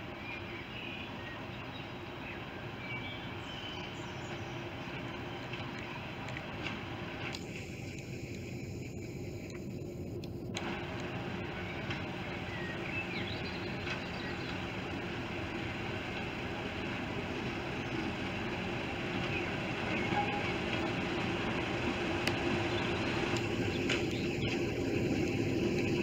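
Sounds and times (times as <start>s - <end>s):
diesel locomotive engine humming: 0.0s - 26.0s.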